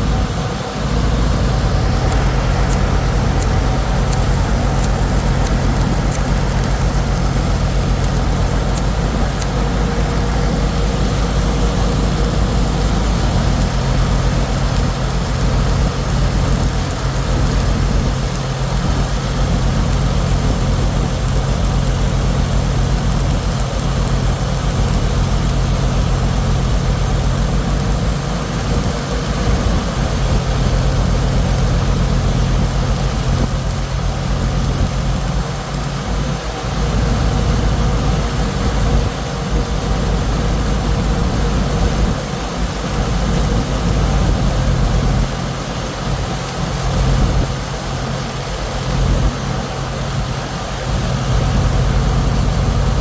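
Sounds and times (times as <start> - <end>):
heavy engine droning: 0.0 - 53.0
hiss: 0.0 - 53.0.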